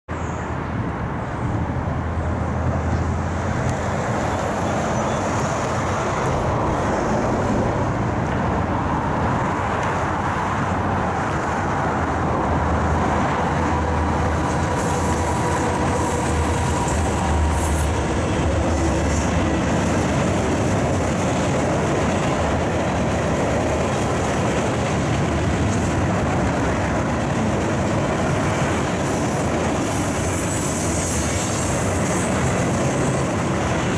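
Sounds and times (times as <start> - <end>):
diesel locomotives running: 0.1 - 33.9
freight cars rolling by: 0.2 - 33.9.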